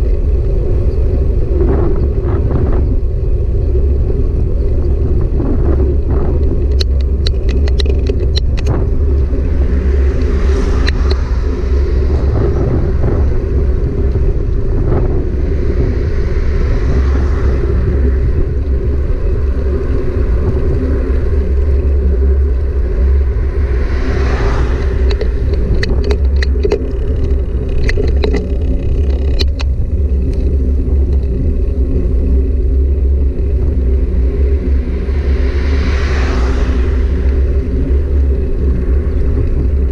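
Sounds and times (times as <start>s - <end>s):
low rumble of bike in motion: 0.0s - 39.9s.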